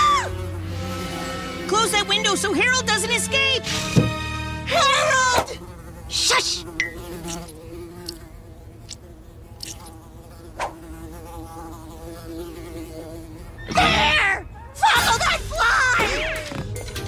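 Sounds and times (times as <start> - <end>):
cartoon fly buzzing: 0.0 - 14.5.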